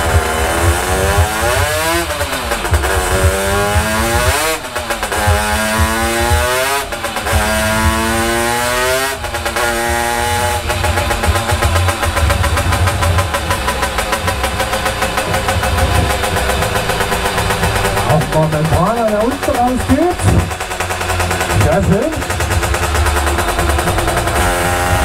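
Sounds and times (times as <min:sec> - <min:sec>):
moped engine revving on dyno: 0:00.0 - 0:25.0.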